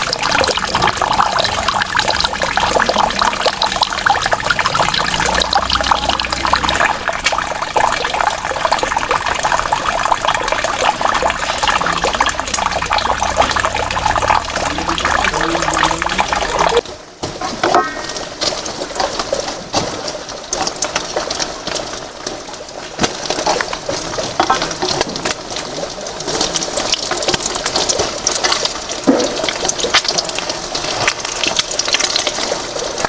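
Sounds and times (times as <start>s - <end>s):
water pouring and splashing: 0.0s - 33.0s.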